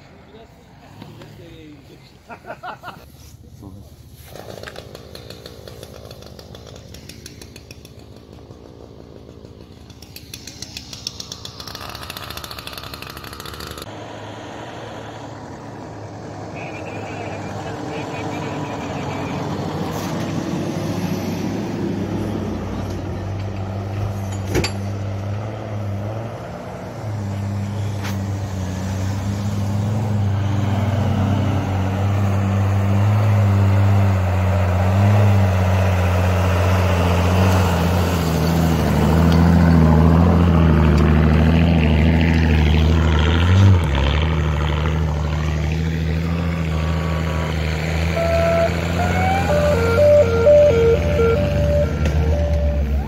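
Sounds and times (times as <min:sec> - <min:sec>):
off-road vehicle engines under load: 0:00.0 - 0:53.0.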